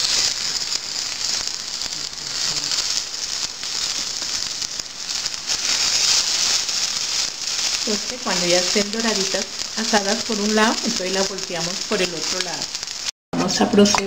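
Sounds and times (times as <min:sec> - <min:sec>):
hot fat sizzling in a frying pan: 0:00.0 - 0:14.0.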